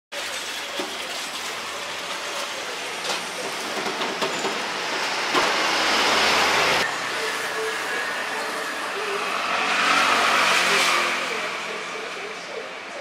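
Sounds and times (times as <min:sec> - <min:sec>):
traffic rush: 0:00.2 - 0:13.0.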